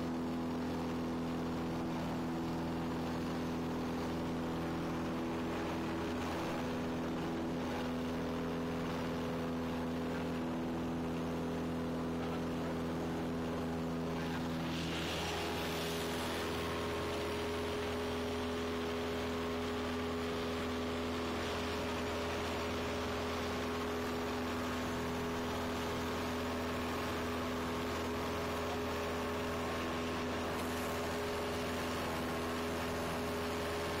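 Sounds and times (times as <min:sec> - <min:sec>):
propeller plane engine droning: 0:00.0 - 0:34.0.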